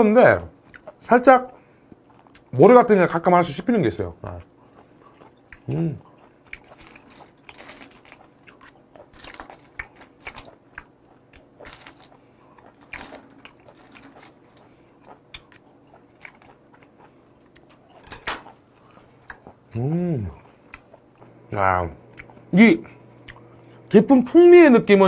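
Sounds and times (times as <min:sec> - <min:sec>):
person chewing shellfish: 0:00.5 - 0:02.6, 0:04.2 - 0:23.9.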